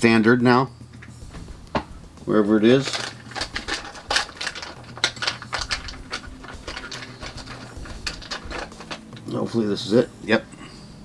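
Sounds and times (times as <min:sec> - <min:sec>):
tools and parts clattering: 0:00.9 - 0:10.2.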